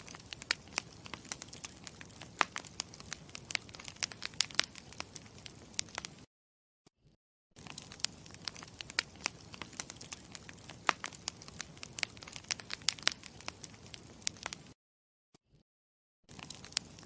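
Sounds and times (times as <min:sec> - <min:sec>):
campfire crackling: 0:00.0 - 0:06.3, 0:07.6 - 0:14.8, 0:16.3 - 0:17.0.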